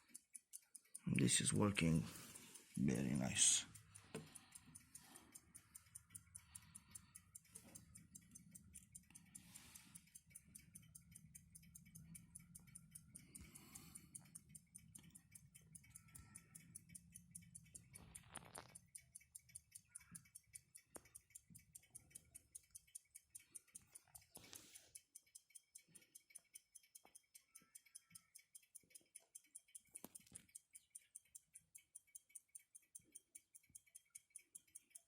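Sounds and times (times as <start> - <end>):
pocket watch ticking: 0.0 - 35.0.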